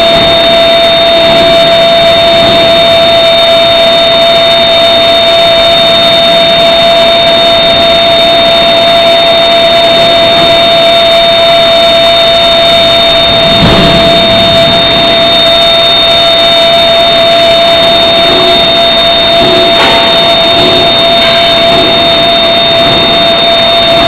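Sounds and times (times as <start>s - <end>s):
high-pitched electrical whine: 0.0s - 24.0s.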